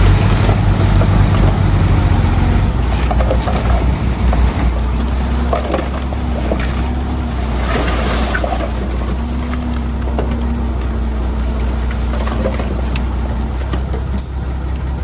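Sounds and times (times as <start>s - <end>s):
knocks and rattles: 0.0s - 14.4s
heavy diesel engine running: 0.0s - 15.0s.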